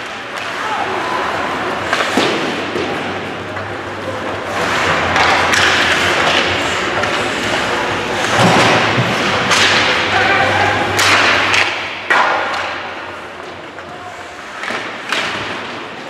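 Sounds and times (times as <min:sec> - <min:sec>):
crowd noise: 0:00.0 - 0:16.0.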